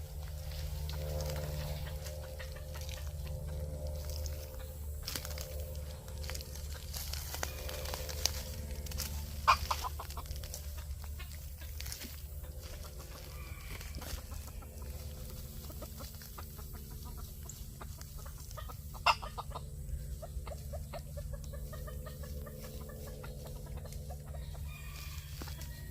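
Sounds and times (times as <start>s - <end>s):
rooster clucking: 0.0s - 25.9s
steady low hum: 0.0s - 25.9s.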